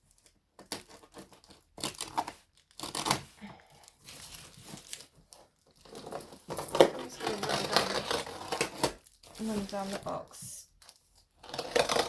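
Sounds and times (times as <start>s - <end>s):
cardboard box packaging tearing: 0.1s - 10.0s, 10.8s - 12.0s.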